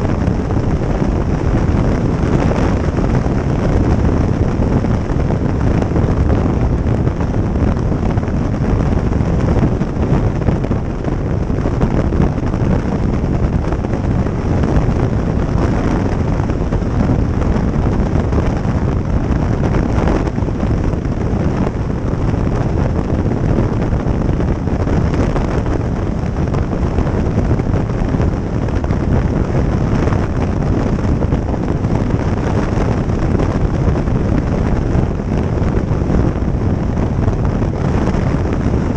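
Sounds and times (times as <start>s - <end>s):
road noise: 0.0s - 38.9s
wind rush on microphone: 0.0s - 38.9s.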